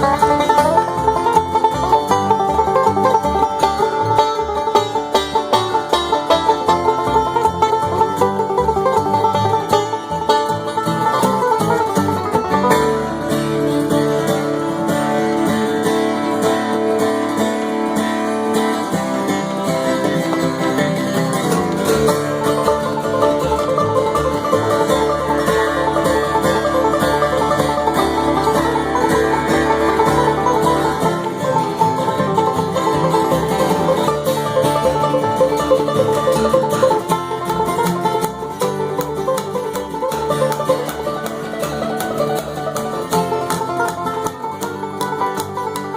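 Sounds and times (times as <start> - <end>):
bluegrass band playing: 0.0 - 45.9
fast banjo picking: 0.0 - 45.9.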